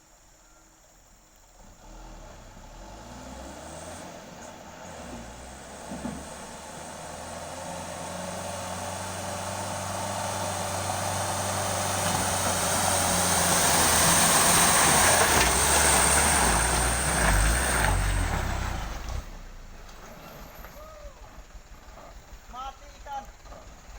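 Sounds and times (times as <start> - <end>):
road noise: 1.1 - 23.9
truck engine running: 1.4 - 23.9.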